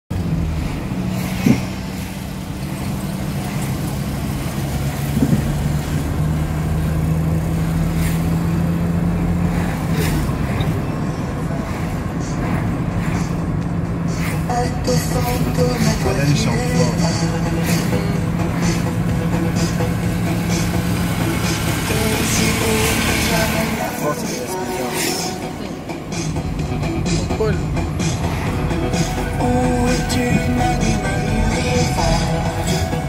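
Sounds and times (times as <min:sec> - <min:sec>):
road noise: 0:00.0 - 0:33.0
car engine hum: 0:00.1 - 0:33.0.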